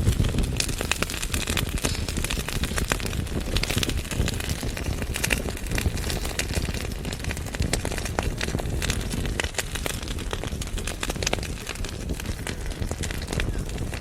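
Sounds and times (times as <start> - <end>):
logs crackling and popping: 0.0 - 14.0
wood fire burning: 0.0 - 14.0.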